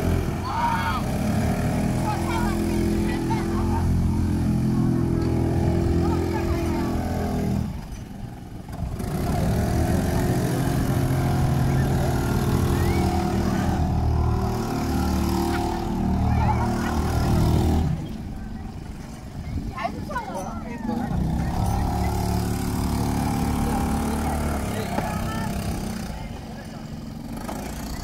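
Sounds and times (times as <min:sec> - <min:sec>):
outboard motors humming: 0:00.0 - 0:28.0.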